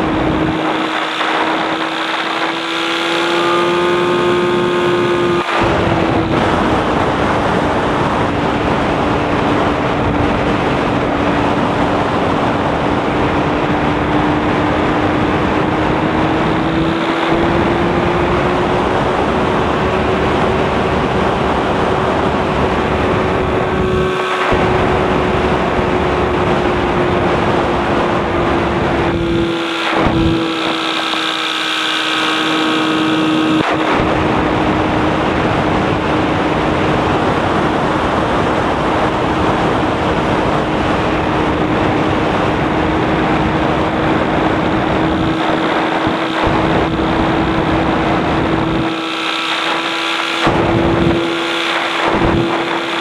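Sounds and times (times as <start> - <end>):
wind and airframe noise: 0.0 - 53.0.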